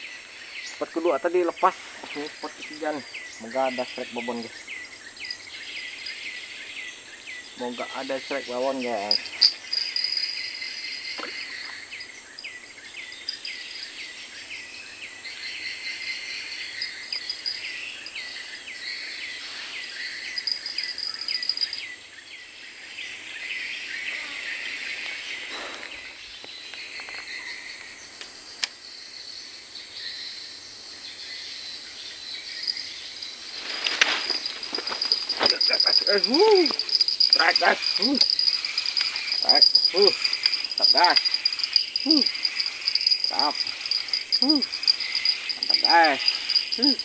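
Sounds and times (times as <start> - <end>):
high insect buzz: 0.0 - 47.0
insects chirping: 0.0 - 47.0.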